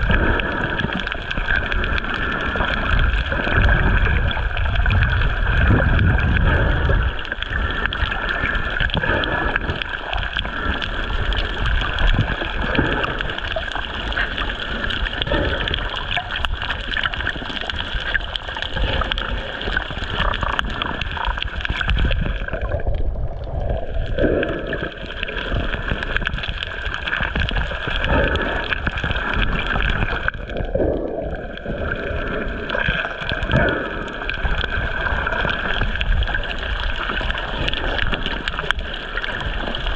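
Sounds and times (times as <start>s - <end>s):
muffled underwater rushing: 0.0s - 39.9s.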